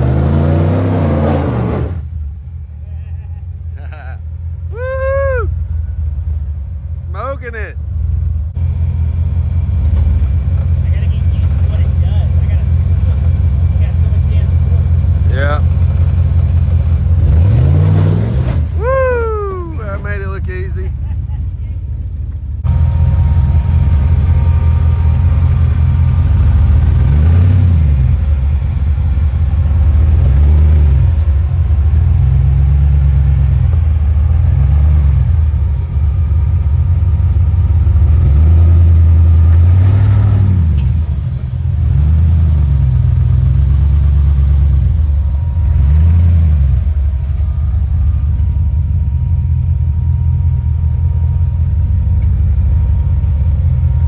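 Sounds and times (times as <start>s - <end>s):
pickup engine revving: 0.0s - 54.0s.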